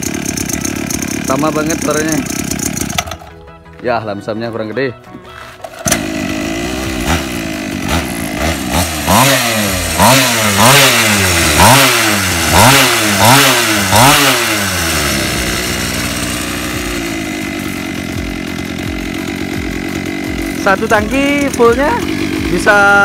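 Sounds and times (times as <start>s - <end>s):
scooter engine idling and revving: 0.0s - 3.4s, 5.4s - 23.0s.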